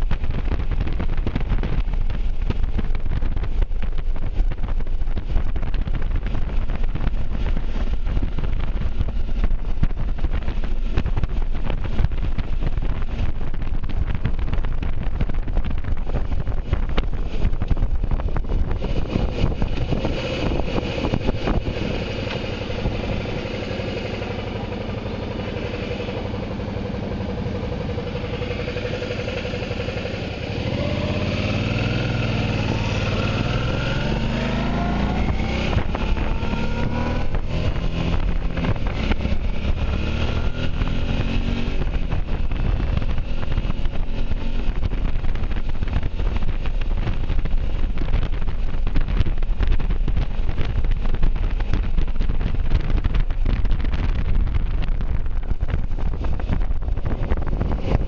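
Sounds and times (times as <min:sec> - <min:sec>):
motorcycle engine: 0:00.0 - 0:58.0
wind buffeting the microphone: 0:00.0 - 0:58.0.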